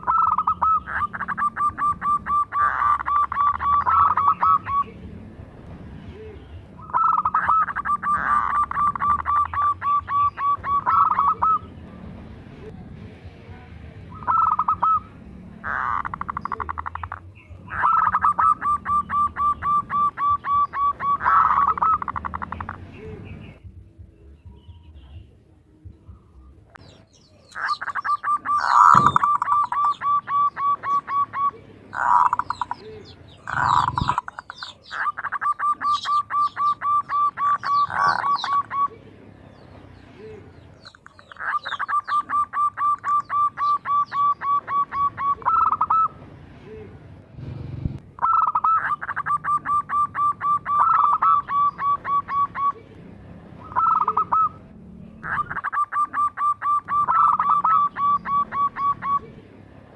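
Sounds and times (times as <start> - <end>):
dove cooing: 0.0 - 5.0, 6.2 - 11.7, 14.1 - 23.6, 26.1 - 39.1, 40.2 - 47.0, 48.2 - 52.9, 53.6 - 59.4
high bird chirps: 0.0 - 5.1, 6.5 - 11.8, 14.1 - 25.3, 25.9 - 46.2, 48.2 - 52.8, 53.6 - 59.4.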